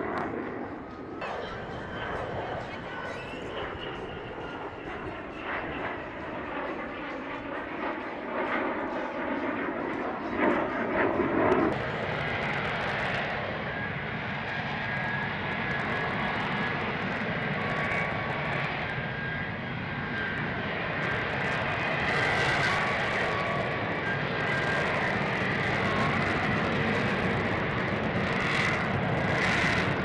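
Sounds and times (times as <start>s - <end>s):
jet engine roar with high whine: 0.0s - 30.0s.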